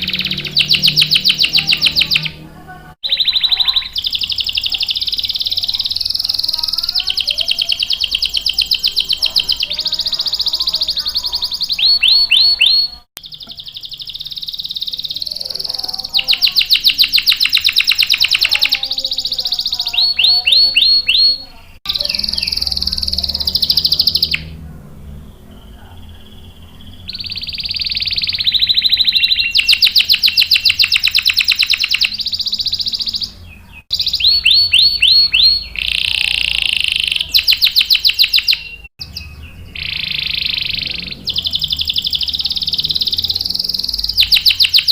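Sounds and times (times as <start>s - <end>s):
canary singing trills and chirps: 0.0s - 44.9s.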